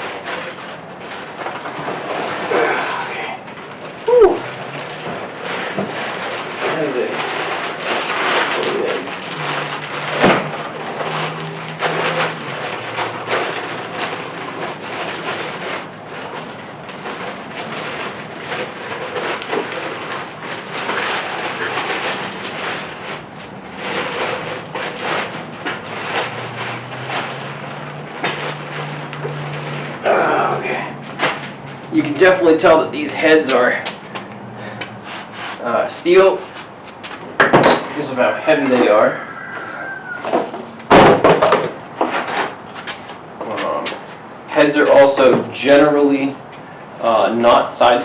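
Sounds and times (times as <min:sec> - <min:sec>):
engine parts clattering: 0:00.0 - 0:48.0.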